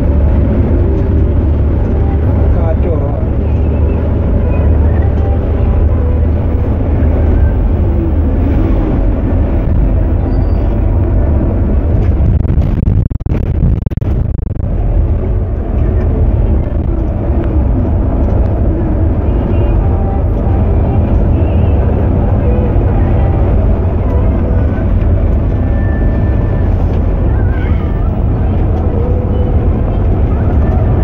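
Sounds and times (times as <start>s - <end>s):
bus engine drone: 0.0s - 31.0s
road and wind noise: 0.0s - 31.0s.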